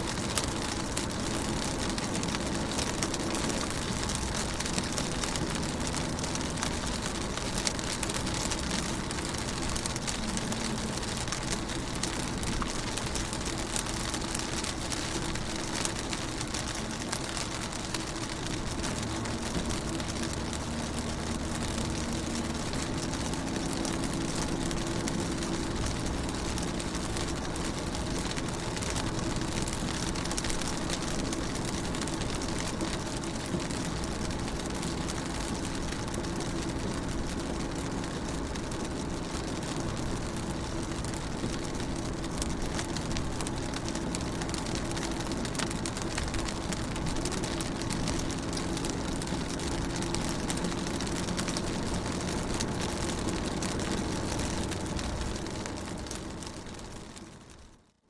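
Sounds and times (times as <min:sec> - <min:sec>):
rain on car windows: 0:00.0 - 0:58.0.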